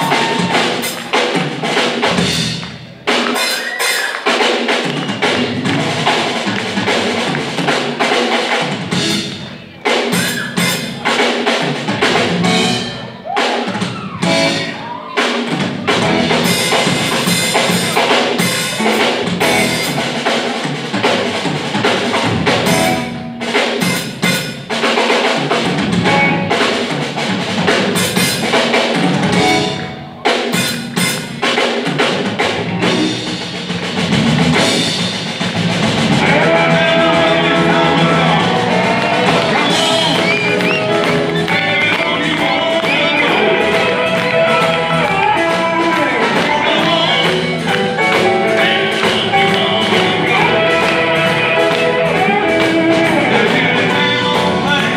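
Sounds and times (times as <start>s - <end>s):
blues band playing: 0.0s - 54.9s
drum kit: 0.0s - 54.9s.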